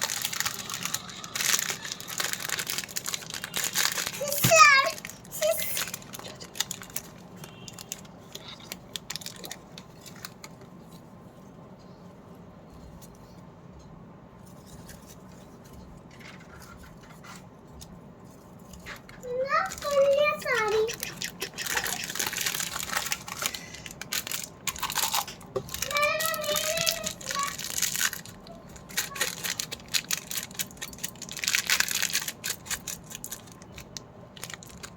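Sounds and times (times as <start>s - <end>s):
candy packaging rustling: 0.0s - 11.3s, 14.4s - 34.9s
faint steady background: 0.0s - 34.9s.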